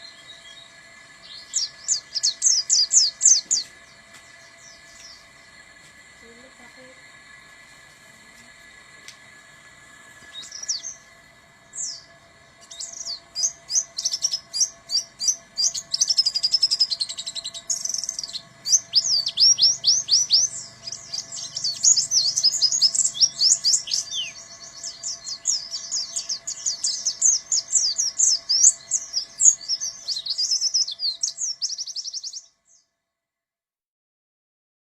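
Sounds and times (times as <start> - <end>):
bird singing high chirps and trills: 0.0 - 7.9, 8.7 - 32.9
faint steady hum: 0.0 - 33.0.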